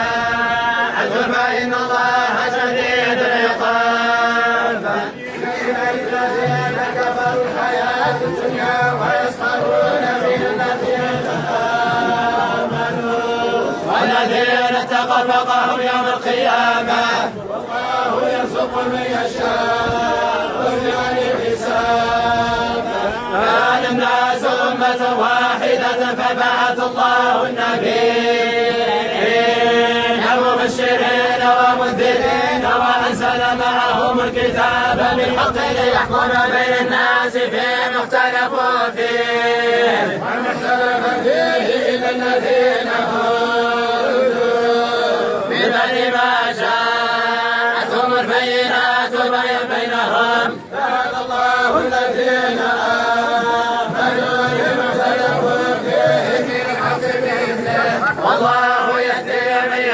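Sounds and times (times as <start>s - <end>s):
men chanting in unison: 0.0s - 59.9s.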